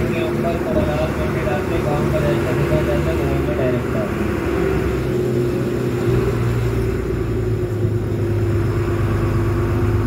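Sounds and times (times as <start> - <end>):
vehicle engine droning hum: 0.0 - 10.0.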